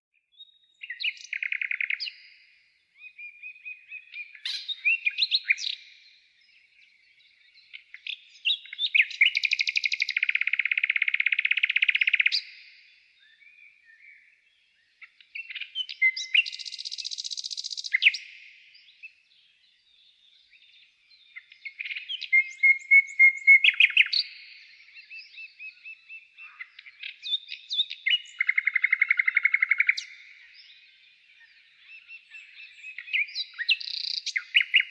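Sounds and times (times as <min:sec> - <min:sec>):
songbird chirping and trilling: 0:00.2 - 0:34.9.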